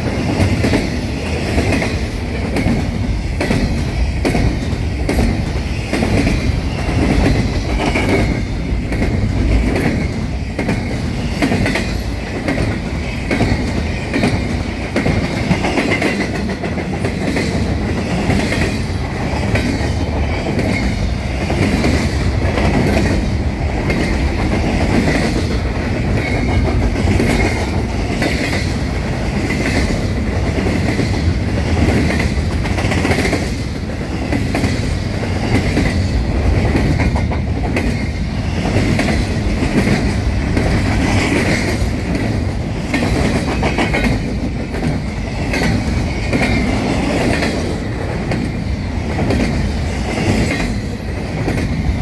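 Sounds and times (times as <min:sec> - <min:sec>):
clickety-clack over rail joints: 0:00.0 - 0:52.0
train wheels rumbling on rail: 0:00.0 - 0:52.0.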